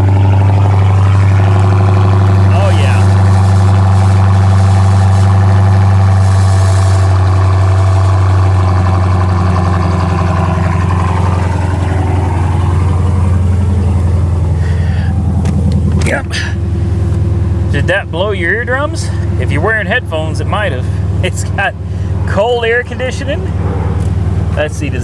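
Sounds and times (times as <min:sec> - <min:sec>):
car engine idling loudly: 0:00.0 - 0:25.0.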